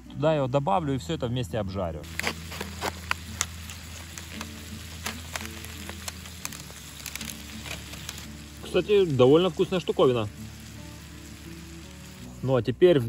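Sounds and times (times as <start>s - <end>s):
vegetables sizzling in a skillet: 2.0s - 13.0s.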